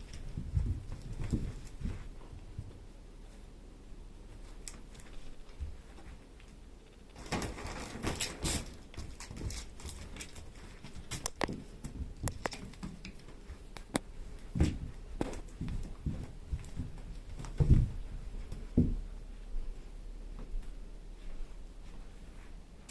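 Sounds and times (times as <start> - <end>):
kittens pattering on hard floor: 0.0 - 3.4, 4.3 - 19.7
rustling: 0.0 - 3.6, 4.2 - 19.9.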